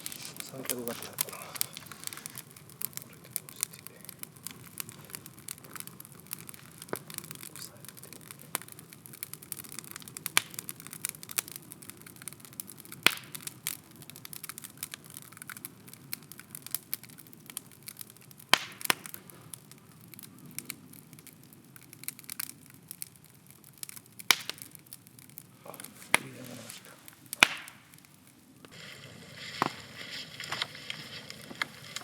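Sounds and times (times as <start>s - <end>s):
bonfire crackling and popping: 0.0s - 32.0s
low rush of burning: 0.0s - 32.0s.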